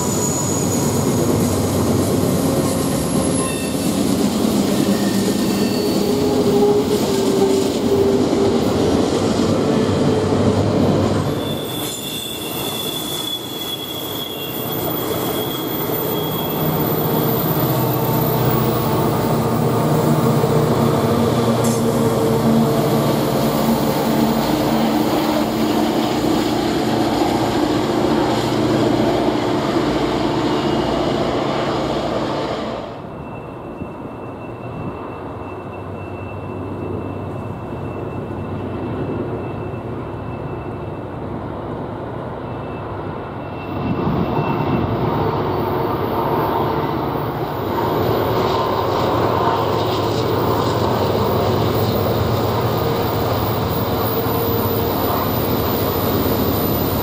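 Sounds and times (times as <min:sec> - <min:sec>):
freight locomotives running by: 0:00.0 - 0:57.0.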